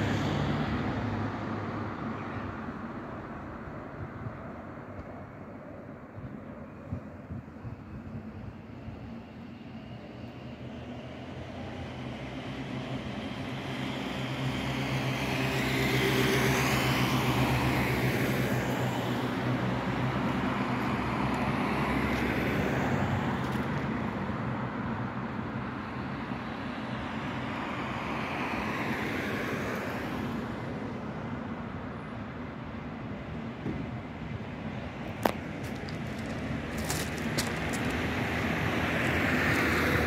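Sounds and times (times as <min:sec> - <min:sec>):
vehicle noise: 0:00.0 - 0:40.0.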